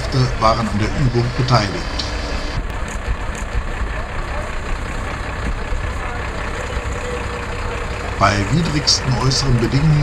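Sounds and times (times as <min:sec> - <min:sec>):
diesel truck engine low rumble: 0:00.0 - 0:10.0.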